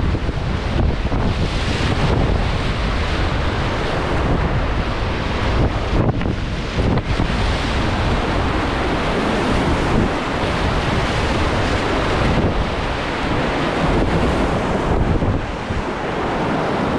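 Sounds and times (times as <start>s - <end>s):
whitewater rapids rushing: 0.0s - 16.9s
wind buffeting microphone: 0.0s - 16.9s.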